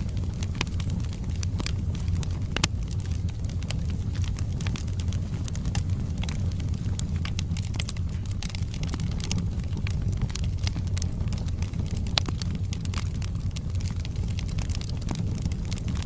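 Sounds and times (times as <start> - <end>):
fire flames rumbling: 0.0 - 16.0
wood crackling and popping: 0.0 - 16.0.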